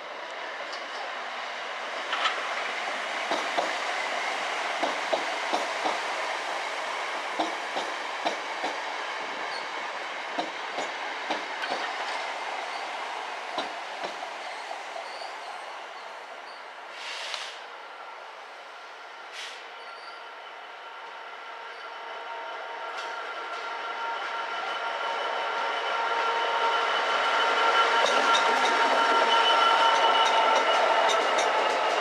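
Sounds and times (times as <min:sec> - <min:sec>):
freight train rolling rumble: 0:00.0 - 0:17.8, 0:20.9 - 0:32.0.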